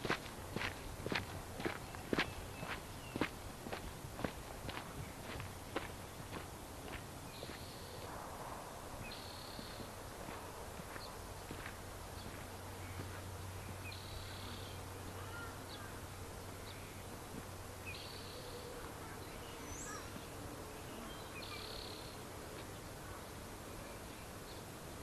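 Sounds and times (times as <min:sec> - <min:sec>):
birds chirping: 0:00.0 - 0:08.0, 0:09.0 - 0:16.0, 0:17.8 - 0:22.9
steady hiss and low rumble: 0:00.0 - 0:25.0.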